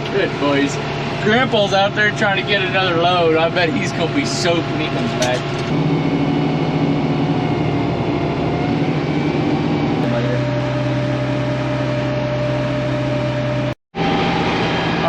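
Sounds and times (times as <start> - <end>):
tractor engine running: 0.0 - 13.8.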